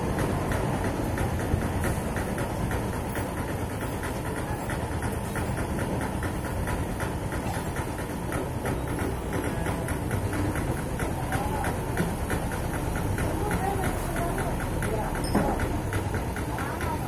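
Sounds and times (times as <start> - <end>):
regular ticking: 0.0 - 17.0
vehicle engine idling: 0.0 - 17.0.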